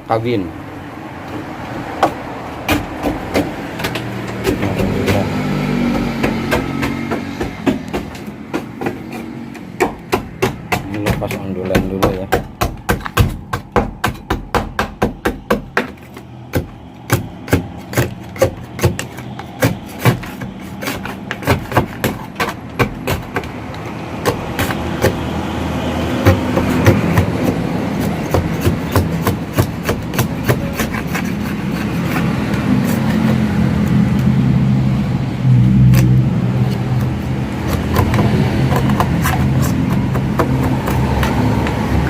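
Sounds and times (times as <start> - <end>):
vehicle engine hum: 0.0 - 42.0.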